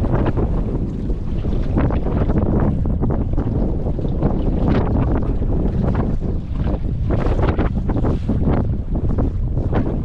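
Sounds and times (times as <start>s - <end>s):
water splashing against boat hull: 0.0s - 10.0s
wind buffeting microphone: 0.0s - 10.0s.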